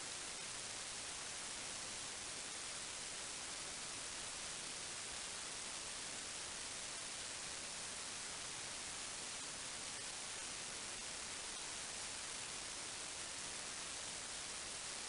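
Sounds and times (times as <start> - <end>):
steady static hiss: 0.0 - 15.0.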